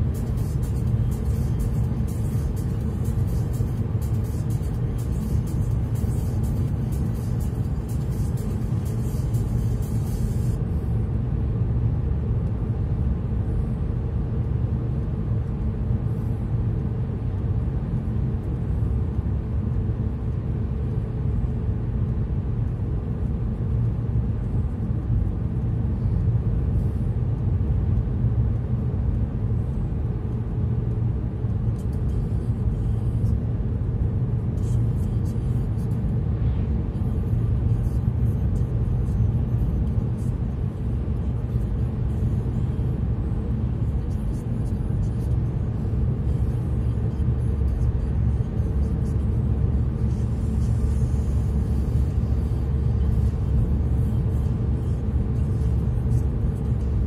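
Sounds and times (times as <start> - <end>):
car driving on highway: 0.0 - 57.0.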